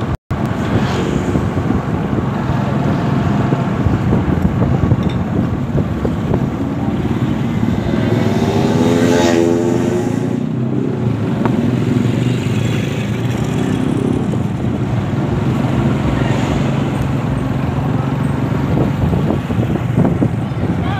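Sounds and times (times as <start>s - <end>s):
car and motorcycle engines running: 0.0s - 20.9s
vehicles passing close by: 0.0s - 20.9s.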